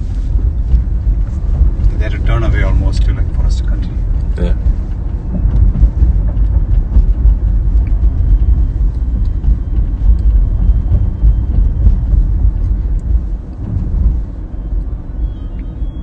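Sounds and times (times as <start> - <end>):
road and tyre noise in car cabin: 0.0 - 16.0.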